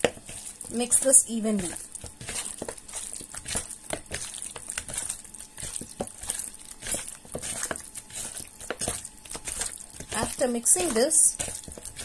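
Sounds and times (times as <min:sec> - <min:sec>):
hand squishing meat in marinade: 0:00.0 - 0:12.0.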